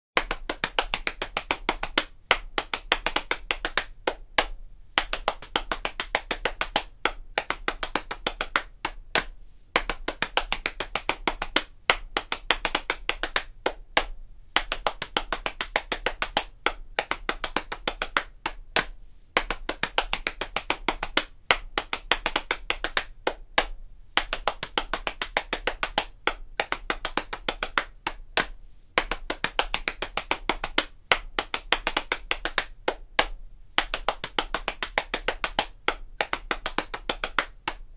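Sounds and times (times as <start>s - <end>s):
hand slaps on body: 0.2s - 37.8s.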